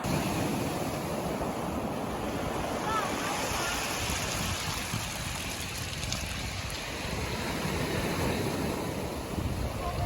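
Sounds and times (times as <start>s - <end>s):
sea surf washing on beach: 0.0s - 10.0s
wind rumbling on microphone: 0.0s - 10.0s.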